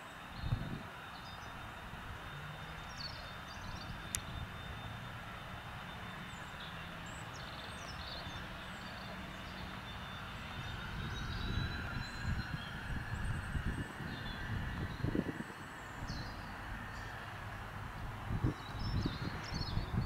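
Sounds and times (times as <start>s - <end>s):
jet engines taxiing: 0.0s - 20.0s.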